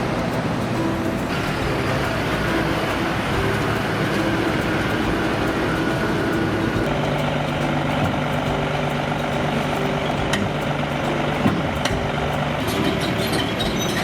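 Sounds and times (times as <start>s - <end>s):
heavy truck engine running: 0.0s - 14.0s.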